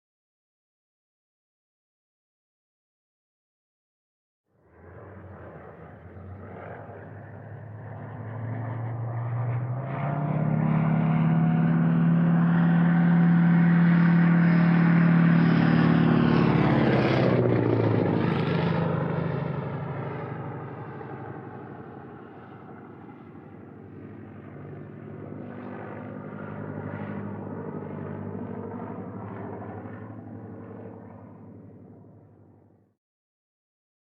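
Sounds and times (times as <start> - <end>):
propeller plane diving past: 4.6 - 33.0.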